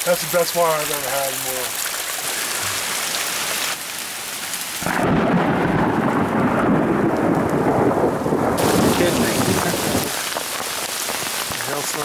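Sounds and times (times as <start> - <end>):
hail and rain falling: 0.0 - 12.0
heavy deep downpour: 0.0 - 12.0.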